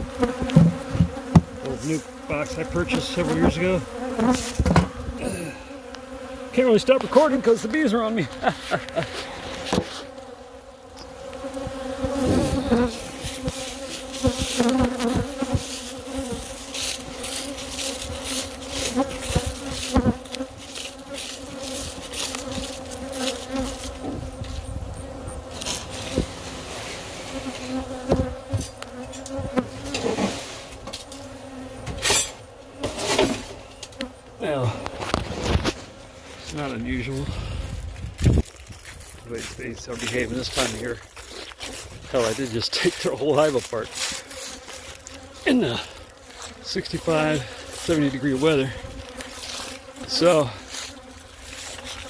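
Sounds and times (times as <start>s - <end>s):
honey bees buzzing: 0.0s - 52.0s.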